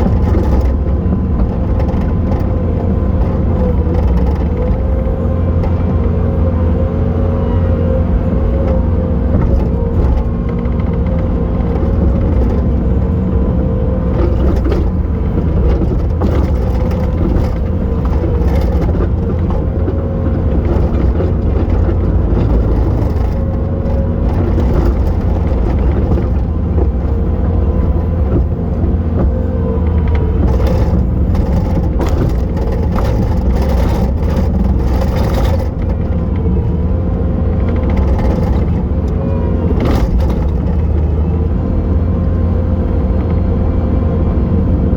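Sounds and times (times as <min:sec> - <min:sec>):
diesel engine under load: 0:00.0 - 0:44.9.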